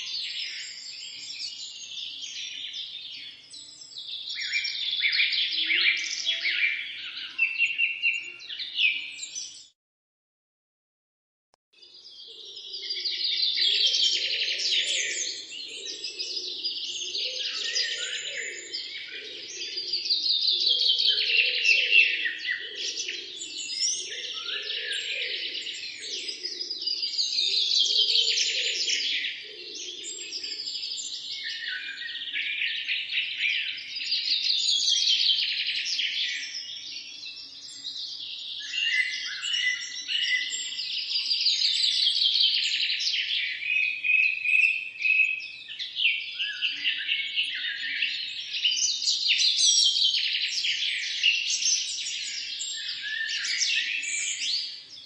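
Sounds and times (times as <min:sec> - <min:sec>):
birds chirping and singing: 0:00.0 - 0:09.7, 0:11.8 - 0:55.0.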